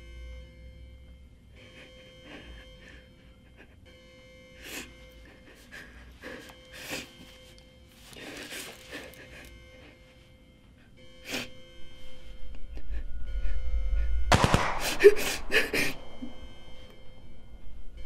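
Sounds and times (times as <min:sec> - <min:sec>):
faint steady hum: 0:00.0 - 0:18.0
woman sniffling and sobbing: 0:01.6 - 0:11.8, 0:12.6 - 0:17.6.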